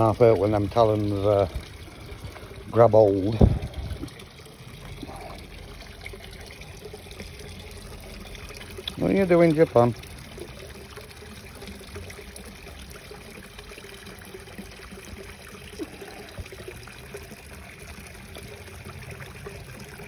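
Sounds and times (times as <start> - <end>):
water pouring into a pond: 0.0 - 20.0.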